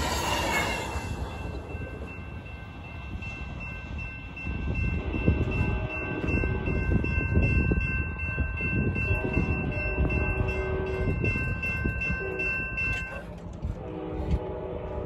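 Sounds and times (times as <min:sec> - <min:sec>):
railroad crossing bell ringing: 0:00.0 - 0:13.5
train rumbling: 0:00.0 - 0:15.0.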